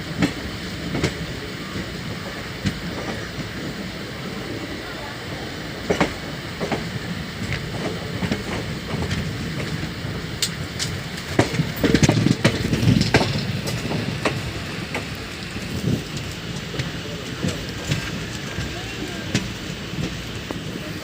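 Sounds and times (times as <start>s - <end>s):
train rumble: 0.0s - 21.0s
train wheels clattering on rails: 0.0s - 21.0s.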